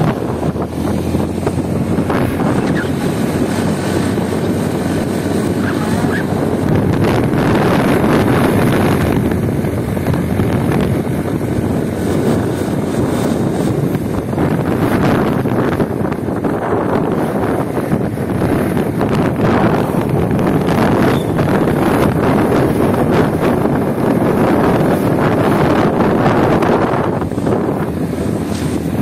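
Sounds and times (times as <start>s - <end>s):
road and engine rumble: 0.0s - 29.0s
wind buffeting microphone: 0.0s - 29.0s.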